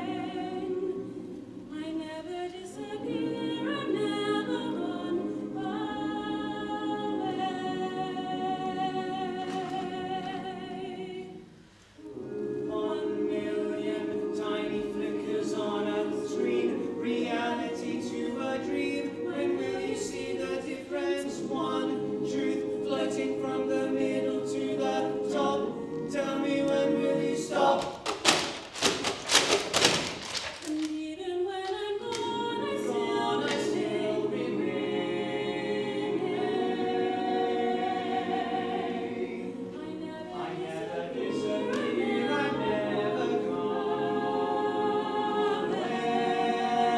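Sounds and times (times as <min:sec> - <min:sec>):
choir singing unaccompanied: 0:00.0 - 0:46.9.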